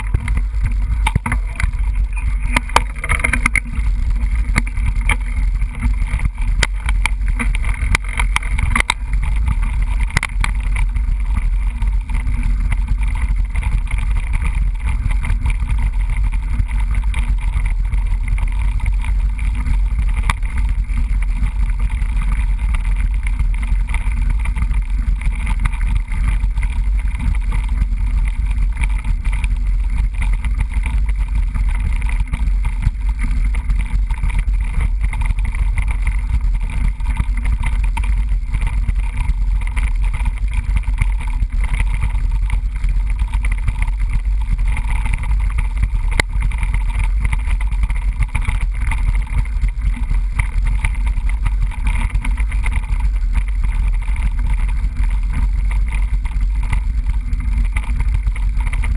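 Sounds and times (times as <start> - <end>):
bike knocks and rattles: 0.0 - 58.9
wind and rolling rumble: 0.0 - 58.9.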